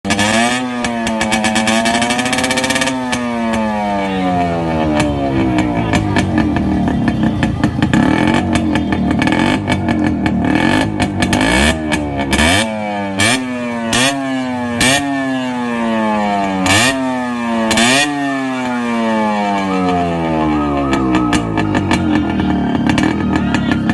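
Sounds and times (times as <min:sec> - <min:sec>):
two-stroke motorcycle engine revving: 0:00.0 - 0:23.9.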